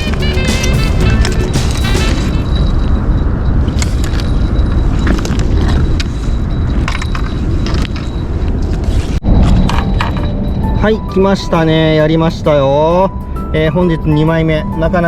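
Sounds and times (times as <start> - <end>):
low rumbling noise: 0.0 - 14.8.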